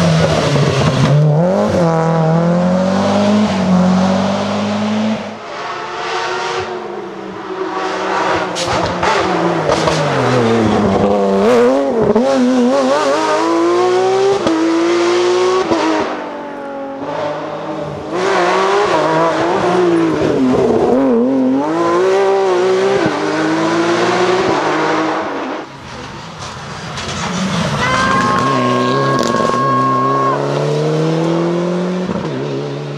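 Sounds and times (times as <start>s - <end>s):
rally car engine at full throttle: 0.0s - 32.9s.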